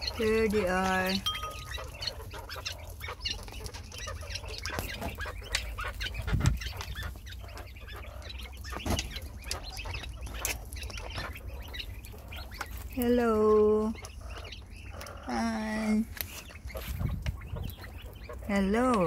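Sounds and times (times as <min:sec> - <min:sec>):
quail chirping and clucking: 0:00.0 - 0:19.0.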